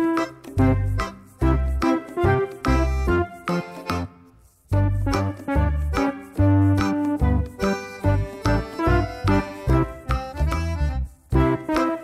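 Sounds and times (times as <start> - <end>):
tune of short notes: 0.0 - 12.0
steady bass beat: 0.6 - 4.0, 4.7 - 11.8.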